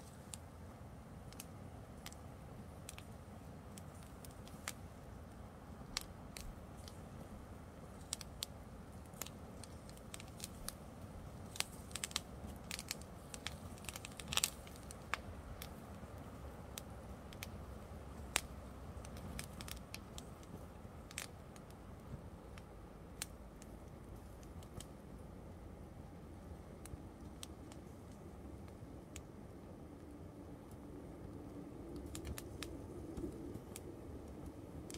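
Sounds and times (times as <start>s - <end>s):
fire crackling and popping: 0.0s - 34.9s
low steady rumble: 0.0s - 34.9s.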